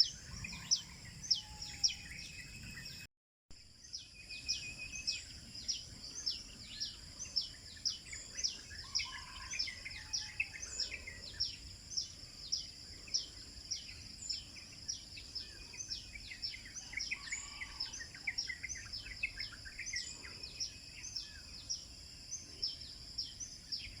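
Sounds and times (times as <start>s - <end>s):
birds chirping: 0.0s - 3.0s, 3.9s - 24.0s.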